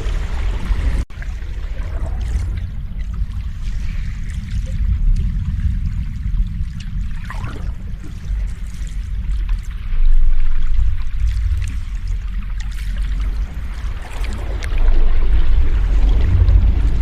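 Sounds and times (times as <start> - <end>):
low surf rumble: 0.0 - 17.0.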